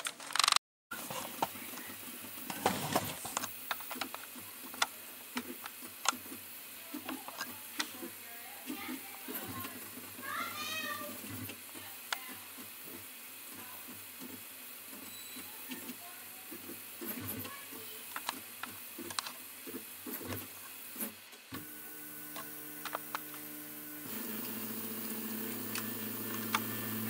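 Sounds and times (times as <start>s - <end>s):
three d printer motors whirring: 0.1s - 27.0s.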